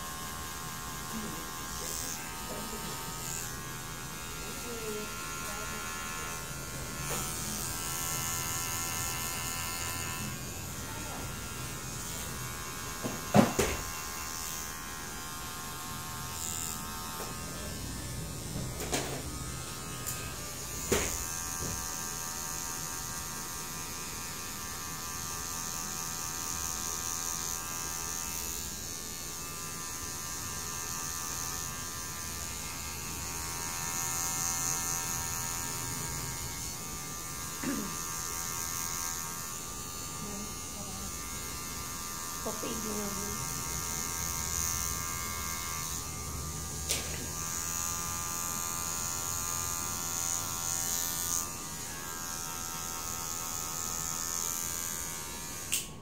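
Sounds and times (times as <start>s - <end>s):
hair clippers buzzing: 0.0s - 56.0s.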